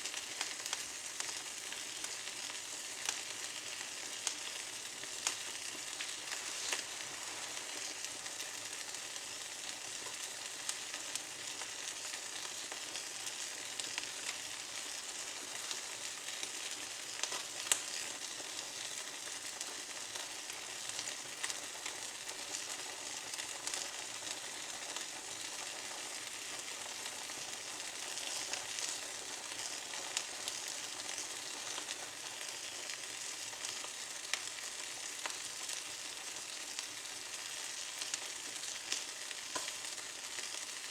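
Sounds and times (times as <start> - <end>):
twigs burning in a fireplace: 0.0 - 40.9
fire crackling and popping: 0.1 - 40.9.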